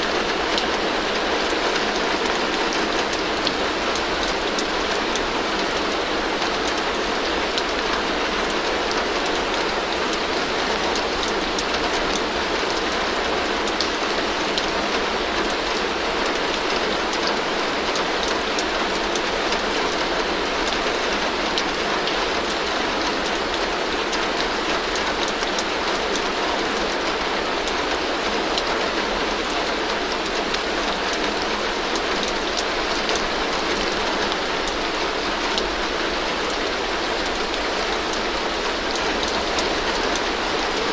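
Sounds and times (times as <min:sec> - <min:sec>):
heavy rain on a tin roof: 0:00.0 - 0:40.9
water streaming off roof: 0:00.0 - 0:40.9.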